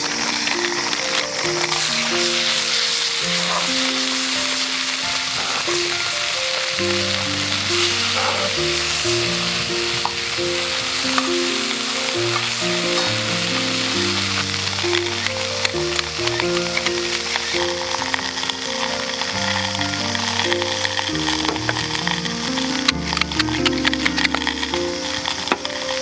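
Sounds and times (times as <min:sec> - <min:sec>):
soft background music: 0:00.0 - 0:26.0
vegetables sizzling in a skillet: 0:00.0 - 0:26.0.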